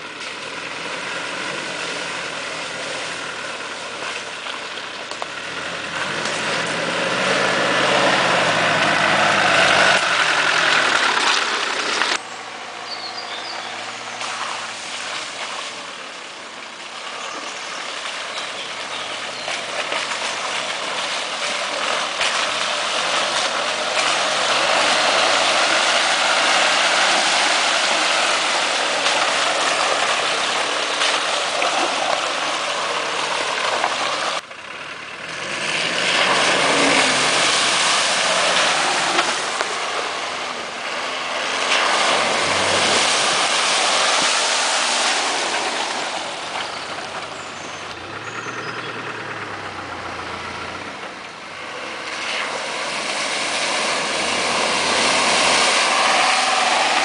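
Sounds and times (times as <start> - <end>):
off-road engines under load: 0.0 - 57.0.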